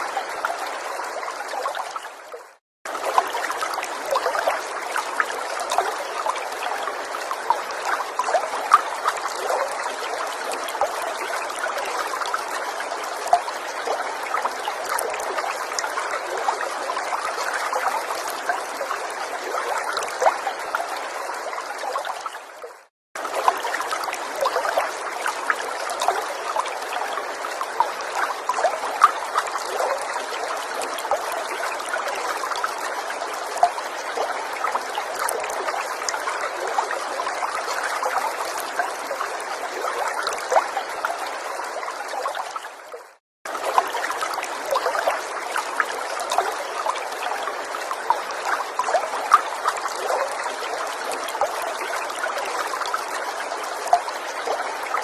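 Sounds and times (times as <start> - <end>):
water stream trickling: 0.0 - 55.0.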